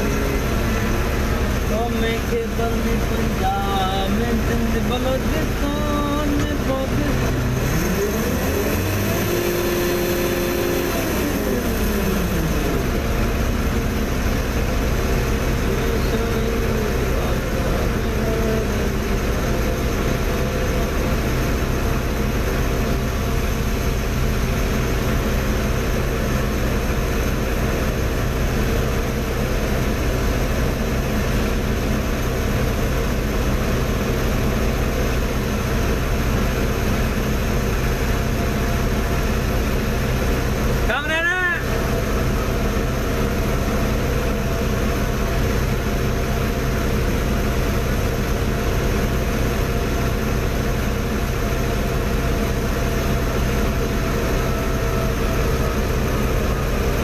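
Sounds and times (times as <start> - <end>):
crane diesel engine running: 0.0 - 57.0.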